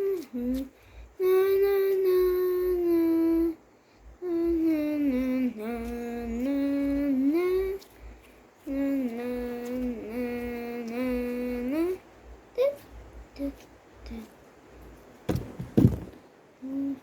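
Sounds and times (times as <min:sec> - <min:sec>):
young voice singing wordless notes: 0:00.0 - 0:14.4, 0:16.6 - 0:17.0.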